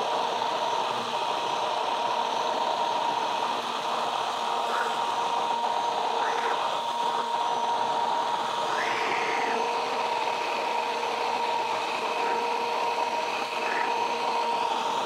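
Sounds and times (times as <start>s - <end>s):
stick blender motor whining: 0.0s - 15.0s.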